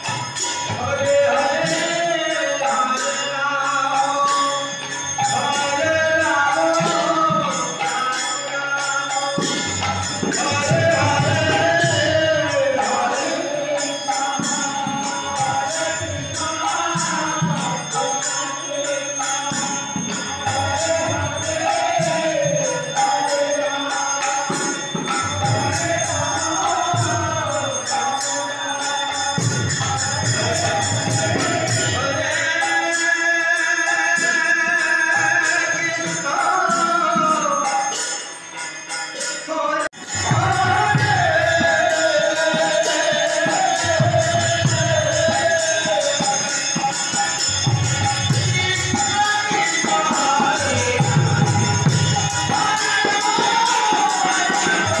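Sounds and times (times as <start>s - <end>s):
group singing a chant: 0.0s - 38.1s, 38.9s - 55.0s
harmonium: 0.0s - 55.0s
jingling percussion: 0.0s - 55.0s.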